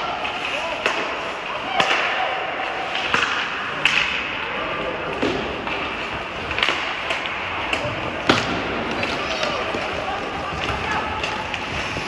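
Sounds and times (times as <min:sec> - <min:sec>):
hockey sticks and puck clacking: 0:00.0 - 0:12.0
skating noise: 0:00.0 - 0:12.0.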